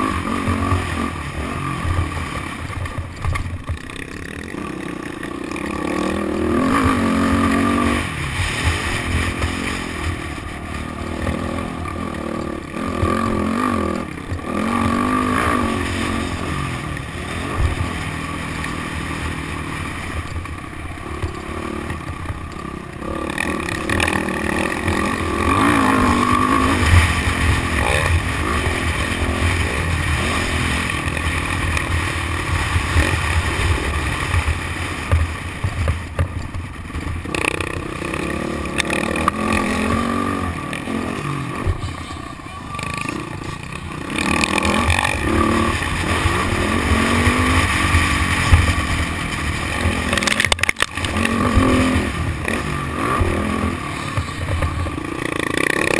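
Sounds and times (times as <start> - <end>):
motocross bike engine revving: 0.0 - 55.9
steady rushing noise: 0.0 - 55.9.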